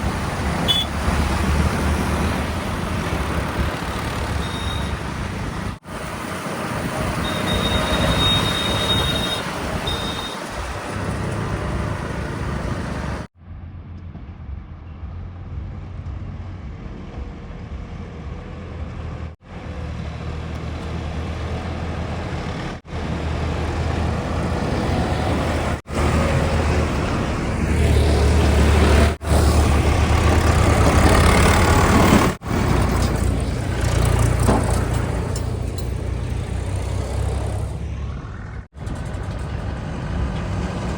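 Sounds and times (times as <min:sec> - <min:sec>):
heavy diesel engines running: 0:00.0 - 0:13.3, 0:14.8 - 0:40.9.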